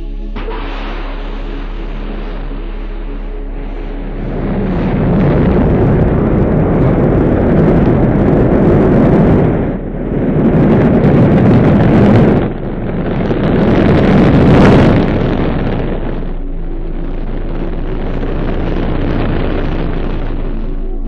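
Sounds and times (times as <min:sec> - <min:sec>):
rocket engines rumbling: 0:00.0 - 0:21.0.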